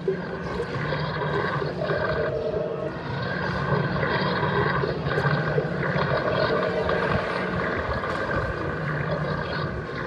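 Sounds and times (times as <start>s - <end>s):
low electronic drone: 0.0s - 10.0s.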